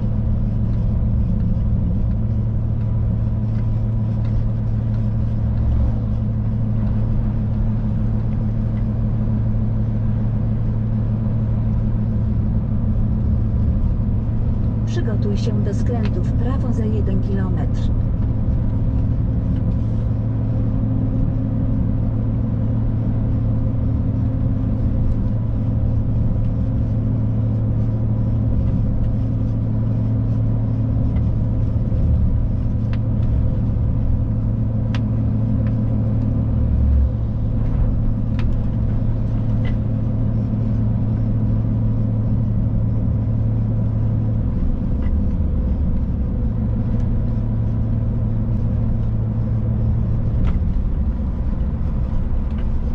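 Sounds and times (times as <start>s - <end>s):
road rumble: 0.0s - 52.9s
truck engine droning: 0.0s - 52.9s.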